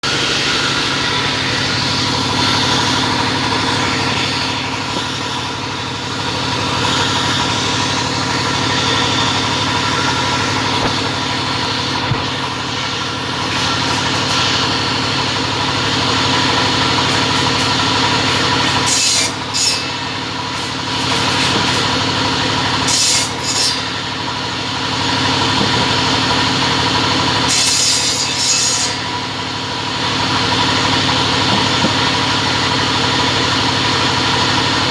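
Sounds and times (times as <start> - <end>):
harsh cutting bursts: 0.0 - 34.9
saw motor humming: 0.0 - 34.9.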